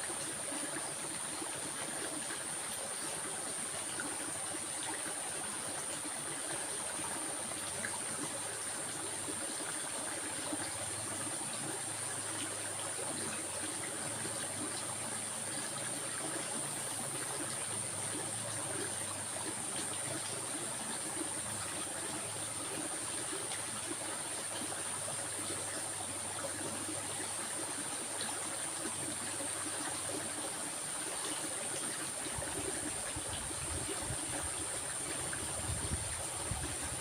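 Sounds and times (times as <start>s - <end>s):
stream of water flowing: 0.0s - 37.0s.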